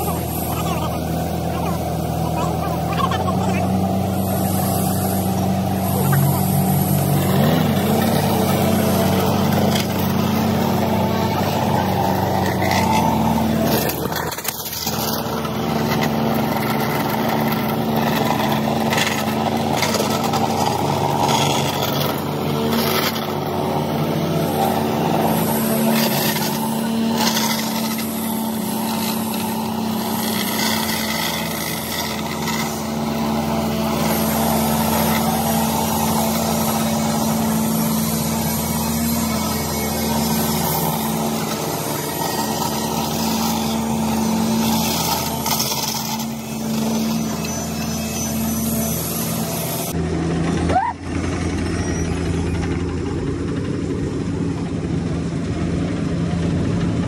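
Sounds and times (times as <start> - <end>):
paving machinery engines droning: 0.0 - 57.0.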